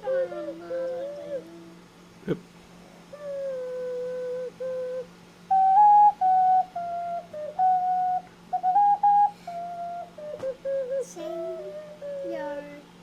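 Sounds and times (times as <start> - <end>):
ocarina melody: 0.0 - 1.8, 3.1 - 12.8.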